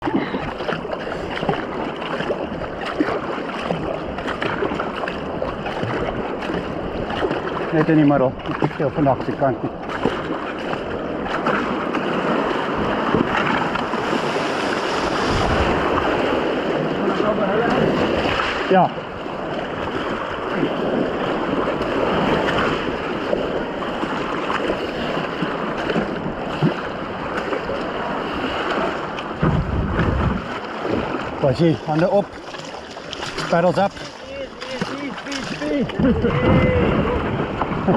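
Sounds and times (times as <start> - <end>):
flowing river water: 0.0 - 37.9
paddle splashing: 0.0 - 37.9.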